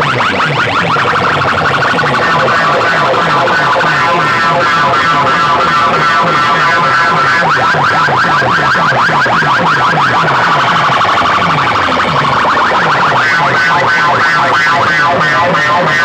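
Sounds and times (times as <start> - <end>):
dj remix music: 0.0 - 16.0.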